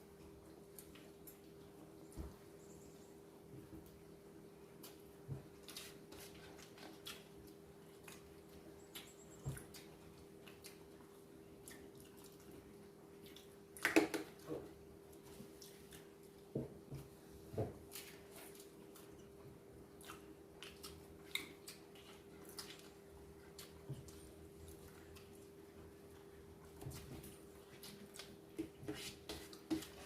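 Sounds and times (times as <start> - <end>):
chewing and handling food: 0.0 - 30.0.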